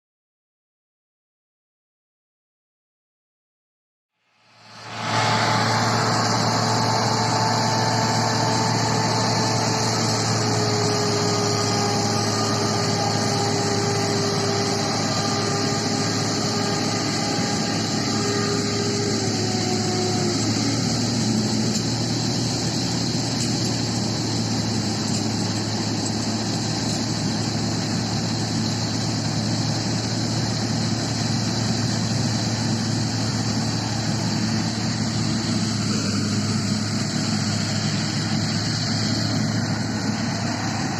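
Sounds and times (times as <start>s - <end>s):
whine sliding down in pitch: 4.4s - 30.0s, 32.4s - 40.9s
combine harvester running: 4.7s - 40.9s.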